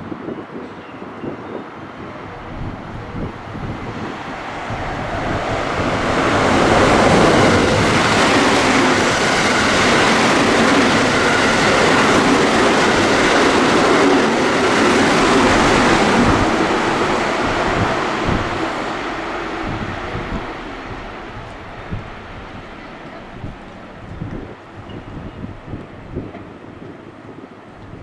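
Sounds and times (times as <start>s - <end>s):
train wheels on rails: 2.0s - 28.0s.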